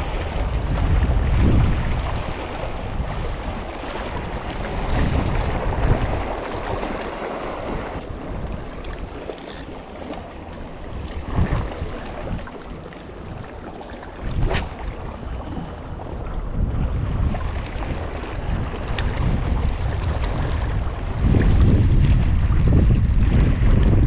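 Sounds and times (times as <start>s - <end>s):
sea washing: 0.0s - 24.0s
wind buffeting microphone: 0.0s - 24.0s.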